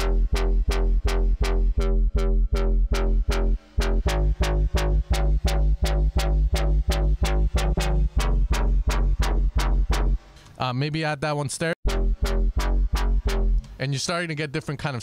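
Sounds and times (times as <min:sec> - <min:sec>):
deep sub bass: 0:00.0 - 0:10.3, 0:11.8 - 0:13.8
pulsing synth bass notes: 0:00.0 - 0:10.4, 0:11.8 - 0:13.8.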